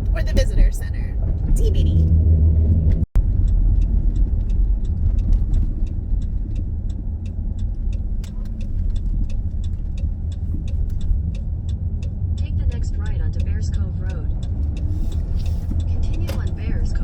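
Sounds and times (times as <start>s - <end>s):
road noise low rumble: 0.0s - 17.0s
light even ticking: 3.2s - 17.0s.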